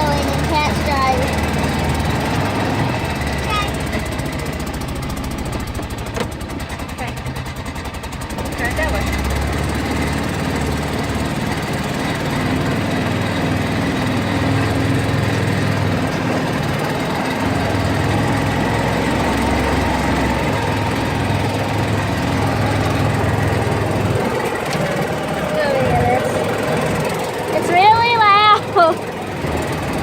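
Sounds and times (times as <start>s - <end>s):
loud vehicle engine running: 0.0s - 30.0s.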